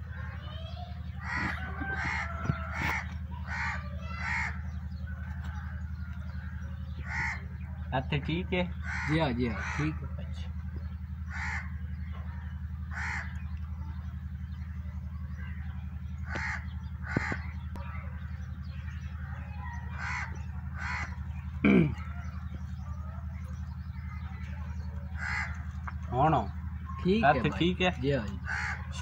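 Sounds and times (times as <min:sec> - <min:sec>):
crows cawing: 0:00.0 - 0:07.7, 0:08.4 - 0:14.0, 0:15.3 - 0:23.2, 0:23.8 - 0:29.0
steady low hum: 0:00.0 - 0:29.0.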